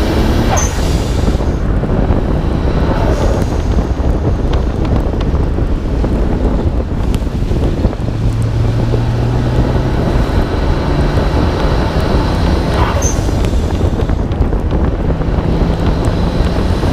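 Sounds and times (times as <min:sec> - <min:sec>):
car engine droning: 0:00.0 - 0:16.9
wet road noise: 0:00.0 - 0:16.9
wind buffeting microphone: 0:00.0 - 0:16.9.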